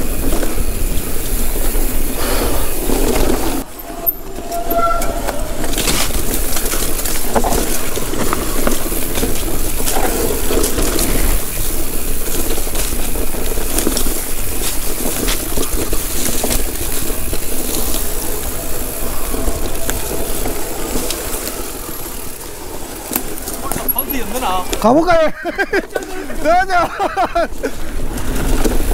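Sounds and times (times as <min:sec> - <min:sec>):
bike knocking and rattling: 0:00.0 - 0:28.9
rushing noise of bike tyres: 0:00.0 - 0:28.9.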